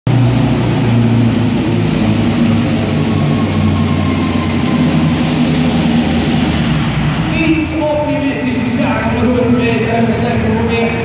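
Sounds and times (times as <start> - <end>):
diesel engine droning under load: 0.0 - 11.0.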